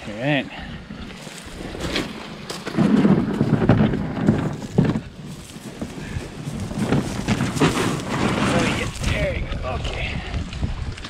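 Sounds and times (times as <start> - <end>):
boat hull scraping over gravel: 1.0 - 10.0.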